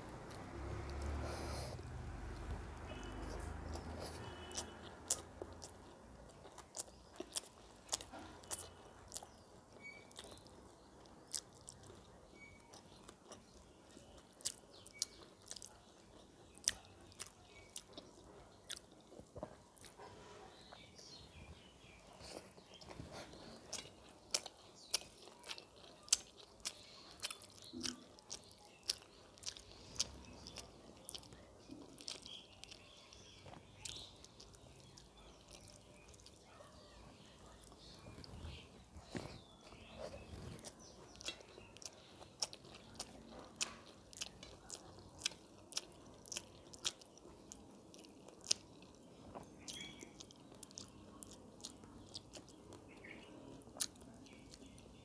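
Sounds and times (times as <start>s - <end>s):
person chewing and crunching food: 0.0s - 36.6s, 37.2s - 55.0s.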